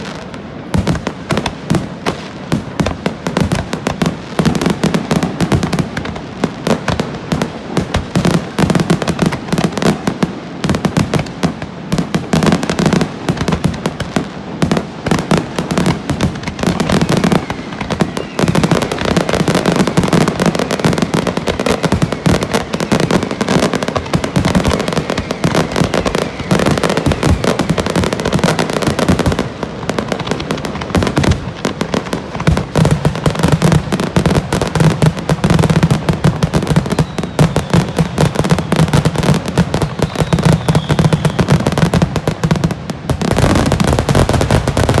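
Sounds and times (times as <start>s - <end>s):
fireworks bursting and crackling: 0.0s - 45.0s.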